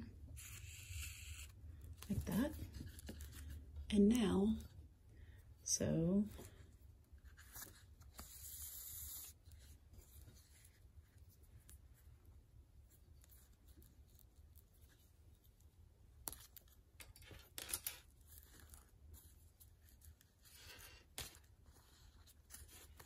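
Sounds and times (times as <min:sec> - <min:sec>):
thread rustling through paper: 0:00.0 - 0:04.8, 0:06.2 - 0:23.0.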